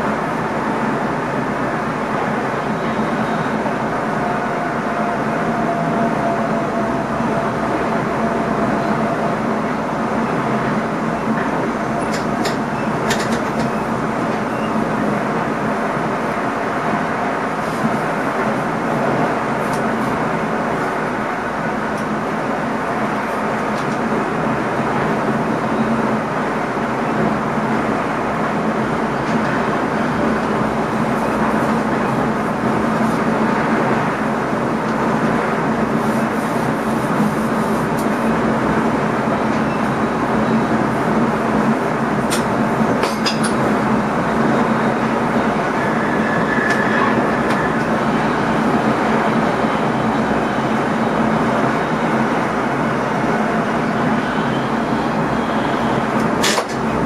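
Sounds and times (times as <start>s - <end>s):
train cab running noise: 0.0s - 57.0s.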